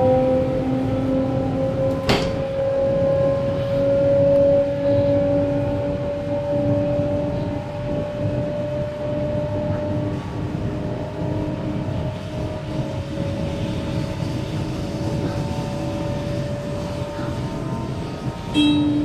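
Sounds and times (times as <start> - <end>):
traction motor whine: 0.0 - 19.0
train running rumble: 0.0 - 19.0.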